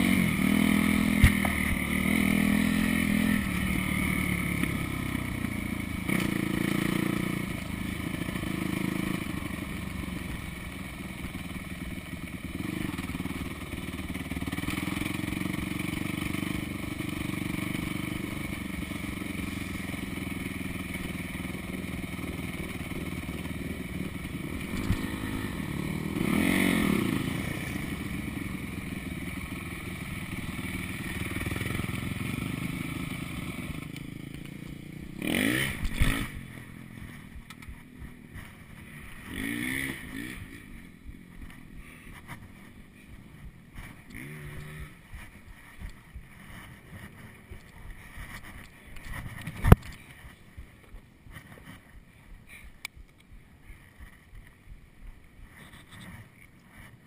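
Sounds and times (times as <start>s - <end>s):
dirt bike engine revving: 0.0s - 52.8s.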